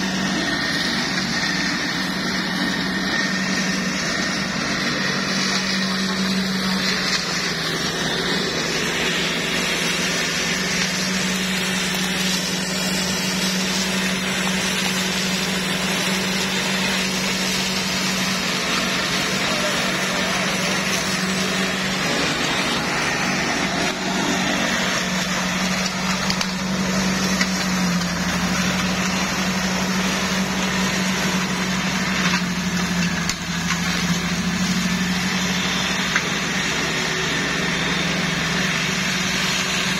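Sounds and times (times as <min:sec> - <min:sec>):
engine hum: 0:00.0 - 0:39.9
flail rotor shredding grass: 0:00.0 - 0:39.9.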